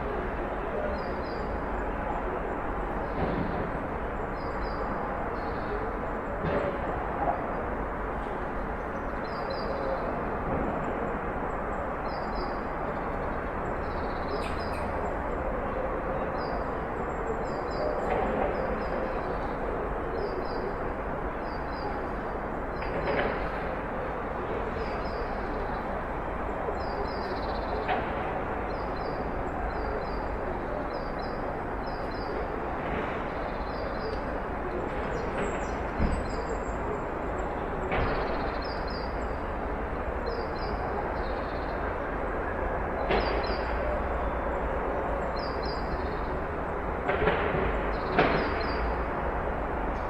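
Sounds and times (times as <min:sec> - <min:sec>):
distant traffic rumble: 0:00.0 - 0:50.0.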